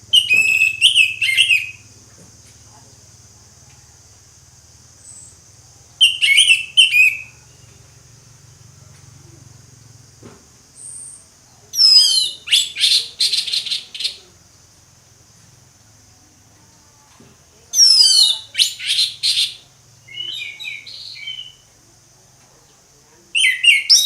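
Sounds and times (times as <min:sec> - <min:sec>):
steady high-pitched hiss: 0:00.0 - 0:24.0.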